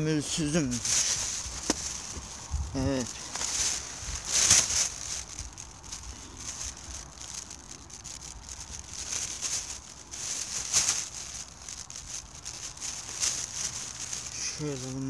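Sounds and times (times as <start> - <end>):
leaf crunch: 0.0 - 15.0
rustling through dry leaves: 0.0 - 15.0.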